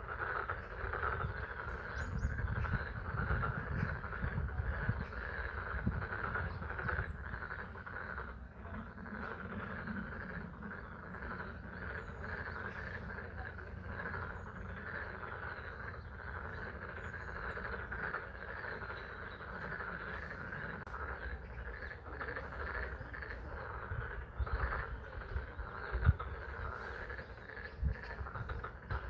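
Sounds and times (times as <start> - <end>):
frogs calling: 0.0 - 29.0.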